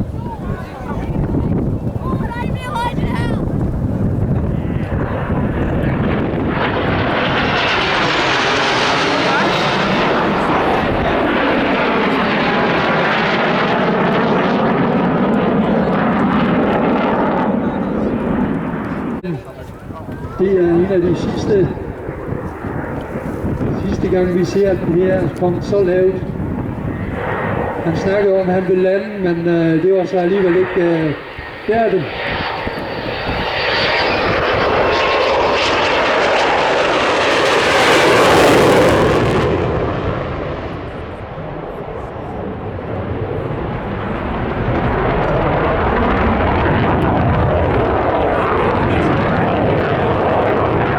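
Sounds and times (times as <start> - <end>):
aircraft flying past low: 0.0 - 50.9.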